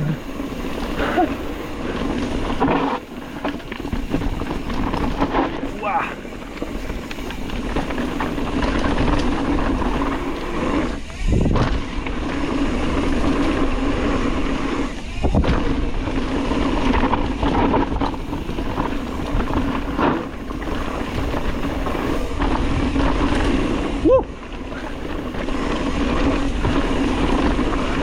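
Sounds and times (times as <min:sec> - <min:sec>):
bike rattling over bumps: 0:00.0 - 0:28.0
bike tyre noise: 0:00.0 - 0:28.0.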